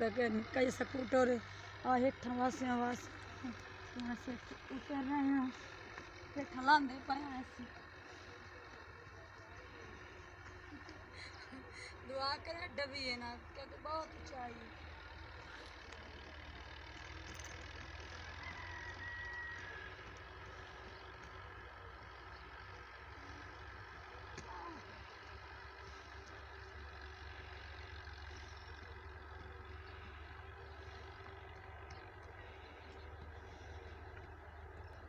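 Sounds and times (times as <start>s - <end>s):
low outdoor rumble: 0.0s - 35.0s.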